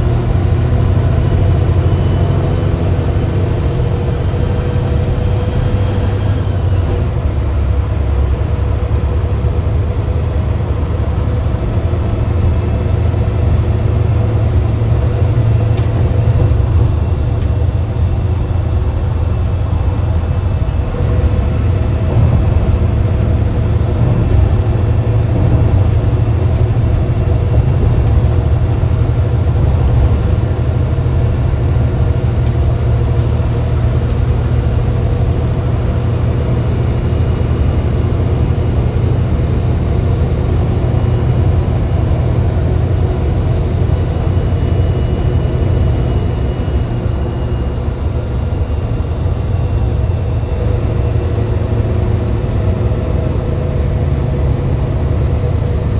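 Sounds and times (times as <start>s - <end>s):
diesel bus engine rumbling: 0.0s - 55.9s.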